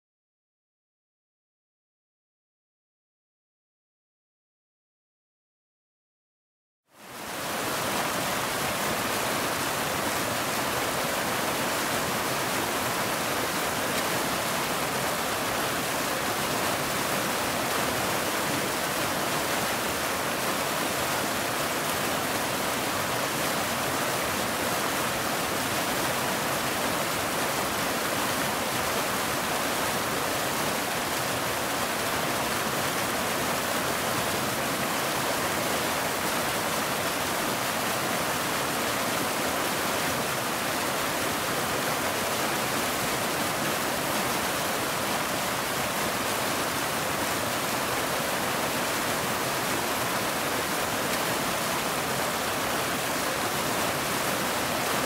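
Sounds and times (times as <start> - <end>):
waterfall rushing: 7.0 - 55.0.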